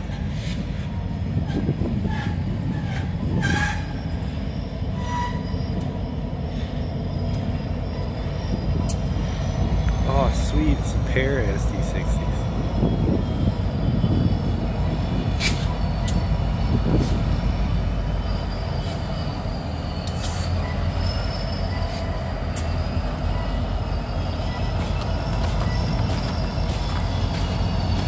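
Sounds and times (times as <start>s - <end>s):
locomotive engines rumbling: 0.0s - 28.0s
wheels squealing against rail: 0.0s - 28.0s.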